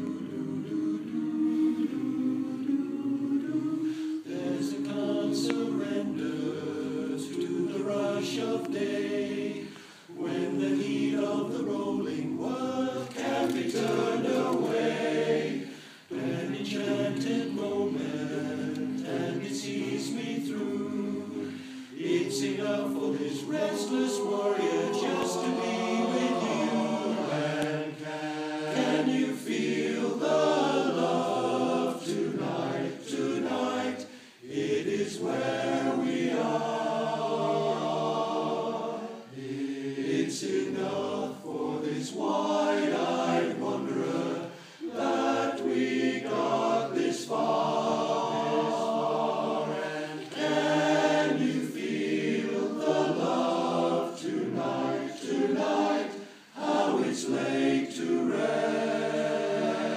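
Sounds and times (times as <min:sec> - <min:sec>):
men's chorus singing: 0:00.0 - 0:59.9.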